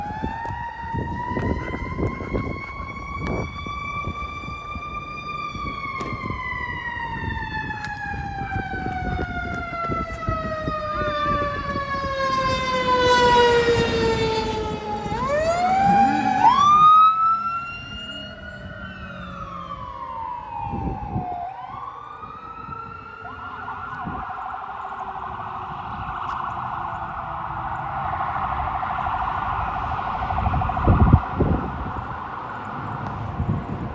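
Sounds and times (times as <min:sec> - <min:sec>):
siren wailing: 0:00.0 - 0:33.9
siren whoops: 0:00.0 - 0:33.9
siren yelp: 0:00.0 - 0:33.9
truck engines rumbling: 0:00.0 - 0:33.9.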